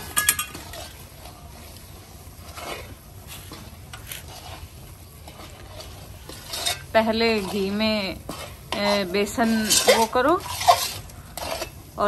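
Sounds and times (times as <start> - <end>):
metal spoon scraping pan: 0.0 - 1.4, 2.4 - 12.0.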